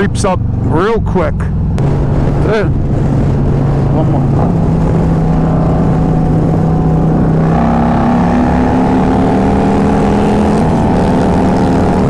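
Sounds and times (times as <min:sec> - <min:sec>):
motorcycle engine accelerating hard: 0:00.0 - 0:12.0.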